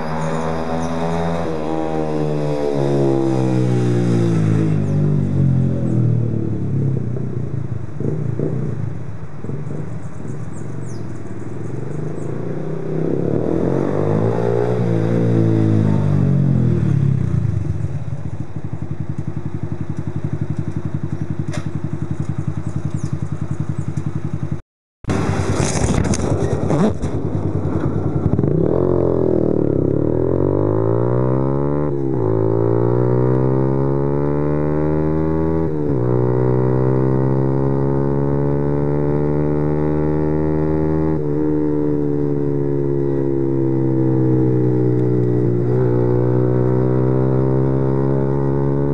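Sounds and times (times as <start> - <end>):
motorcycle engine revving and idling: 0.0 - 48.9.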